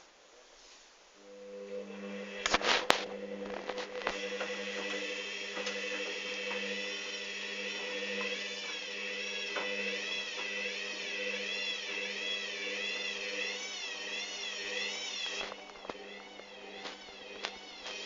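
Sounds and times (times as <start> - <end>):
washing machine motor whining: 1.2 - 18.0.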